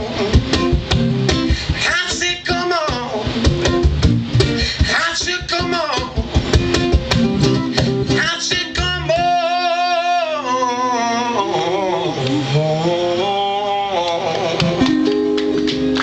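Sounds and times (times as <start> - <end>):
person singing wordless vocals: 0.0 - 3.6, 4.5 - 6.7, 7.4 - 15.4
guitar strumming: 0.0 - 16.0.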